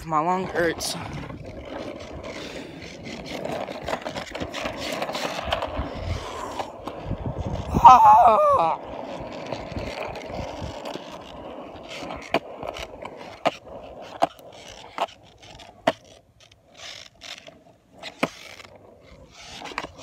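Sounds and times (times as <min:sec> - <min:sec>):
skateboard wheels rumbling: 0:00.0 - 0:20.0
sharp skateboard clicks: 0:00.4 - 0:07.7, 0:08.7 - 0:20.0.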